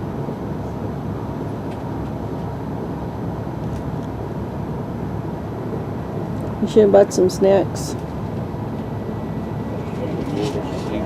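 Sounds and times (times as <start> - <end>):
passenger train rumbling: 0.0 - 11.0.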